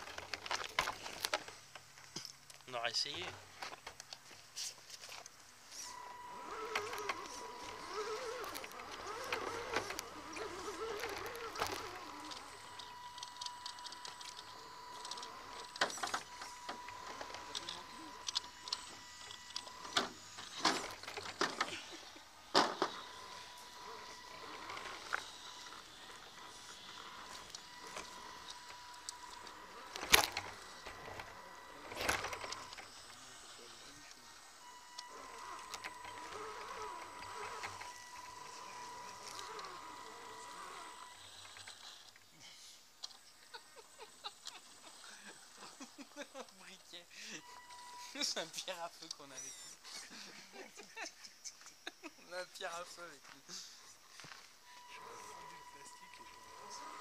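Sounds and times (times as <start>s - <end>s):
rc truck driving over rocks: 0.0s - 50.0s, 51.6s - 57.0s
voices talking: 2.6s - 3.4s, 5.6s - 41.6s, 42.4s - 57.0s
steady high motor whine: 5.0s - 51.0s, 52.2s - 57.0s.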